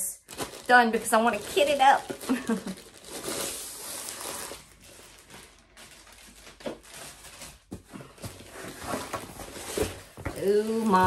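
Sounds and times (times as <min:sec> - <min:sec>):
packaging rustling: 0:00.2 - 0:11.0.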